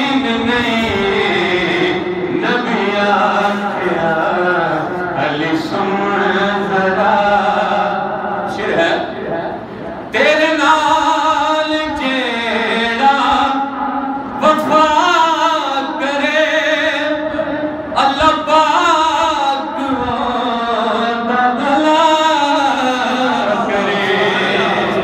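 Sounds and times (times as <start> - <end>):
man chanting devotional poem: 0.0 - 25.0.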